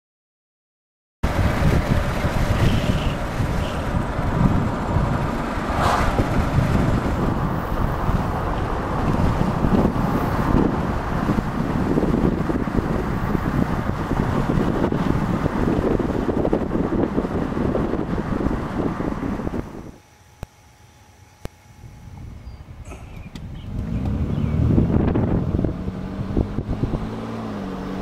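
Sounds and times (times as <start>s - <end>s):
wind buffeting microphone: 1.2s - 20.0s, 21.8s - 28.0s
road rumble from car: 1.2s - 28.0s.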